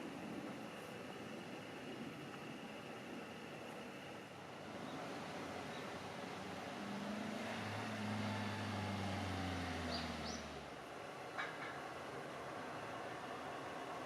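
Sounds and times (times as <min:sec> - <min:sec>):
railcar engine drone: 0:00.0 - 0:14.0.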